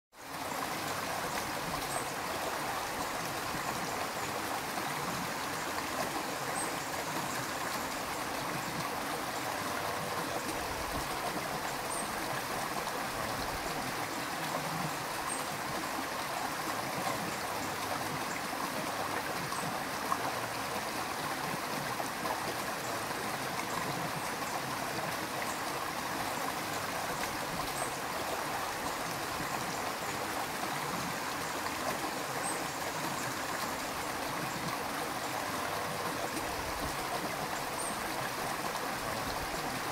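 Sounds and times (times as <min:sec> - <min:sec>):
stream babbling over stones: 0:00.2 - 0:39.9.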